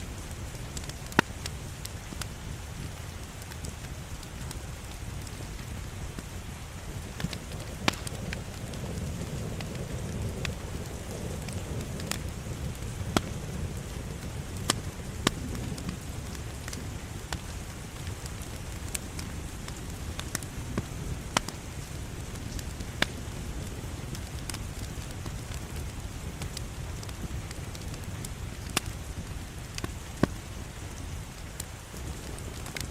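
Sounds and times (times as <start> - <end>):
wood fire crackling and popping: 0.0 - 32.9
fire flames rushing: 0.1 - 32.9.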